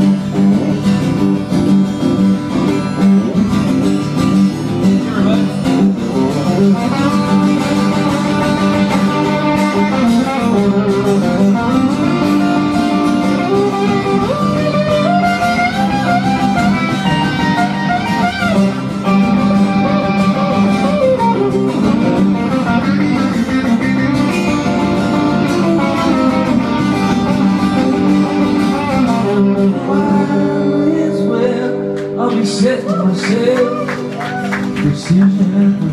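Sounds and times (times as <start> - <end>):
acoustic guitar strumming: 0.0 - 35.9
electric guitar lead line: 0.0 - 35.9.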